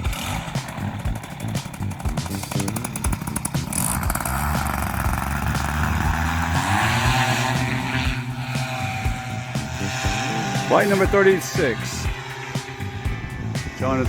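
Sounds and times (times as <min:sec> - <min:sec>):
paramotor engine revving: 0:00.0 - 0:14.0.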